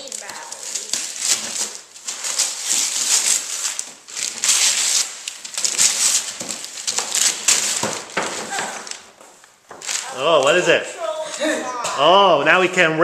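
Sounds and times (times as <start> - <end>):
paper crumpling: 0.0 - 11.7
wrapping paper tearing: 0.0 - 11.7.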